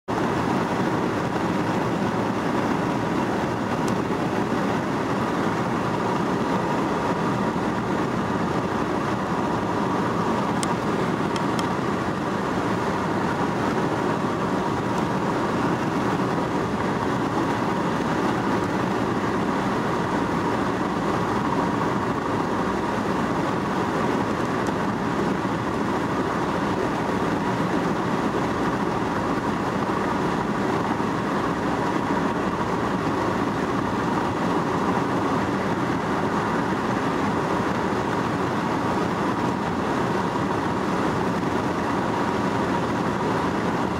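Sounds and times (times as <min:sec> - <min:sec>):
car road and tyre noise: 0:00.1 - 0:43.9.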